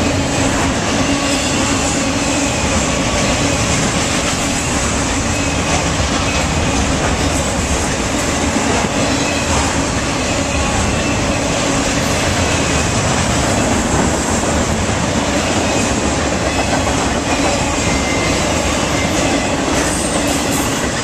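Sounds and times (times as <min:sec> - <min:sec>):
train wheels rolling on rails: 0:00.0 - 0:21.0.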